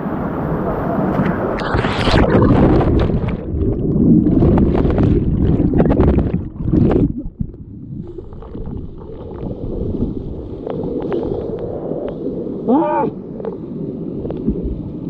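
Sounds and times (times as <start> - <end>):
underwater churning and bubbling: 0.0 - 15.0.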